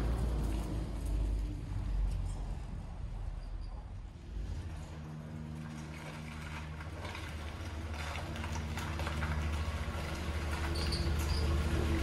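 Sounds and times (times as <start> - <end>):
vehicle engine driving slowly: 0.0 - 12.0.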